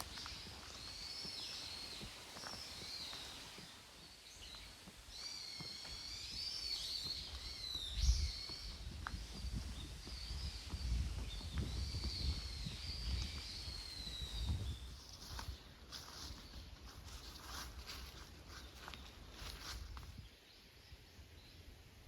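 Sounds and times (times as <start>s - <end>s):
birds singing: 0.0s - 21.6s.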